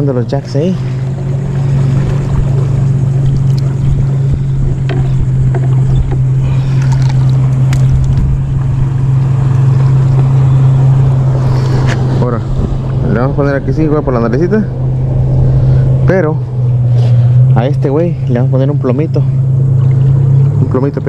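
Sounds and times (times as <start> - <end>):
motorboat engine drone: 0.0 - 21.0
water splashes: 0.0 - 21.0.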